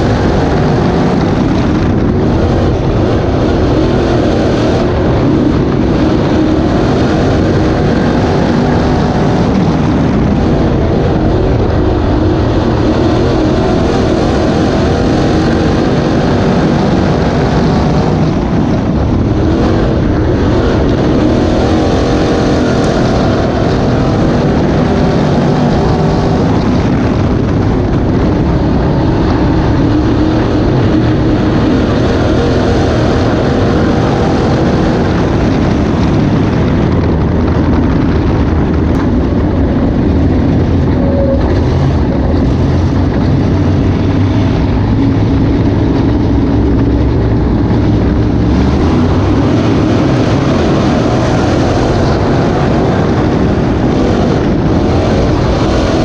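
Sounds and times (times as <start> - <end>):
race car engine running loud: 0.0 - 56.0.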